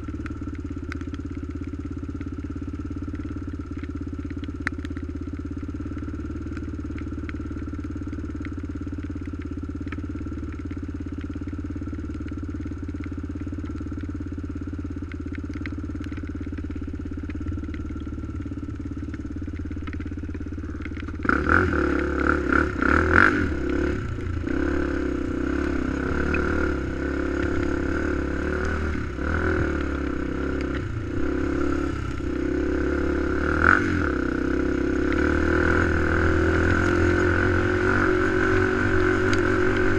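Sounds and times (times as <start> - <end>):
quad bike engine: 0.0 - 39.9.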